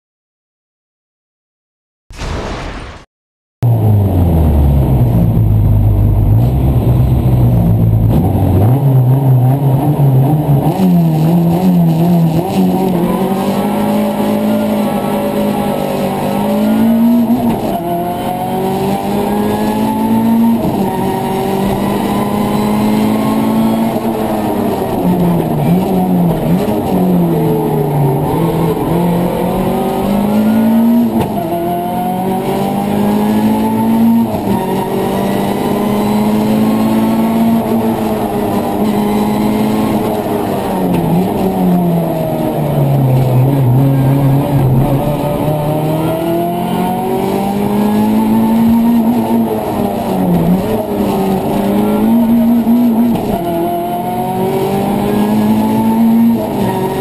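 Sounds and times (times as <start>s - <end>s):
rally car engine accelerating: 3.6s - 57.0s.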